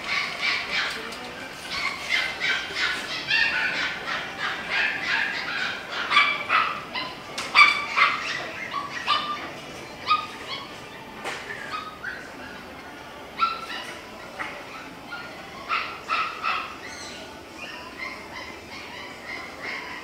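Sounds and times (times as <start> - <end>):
dogs yipping and barking: 0.0 - 20.0.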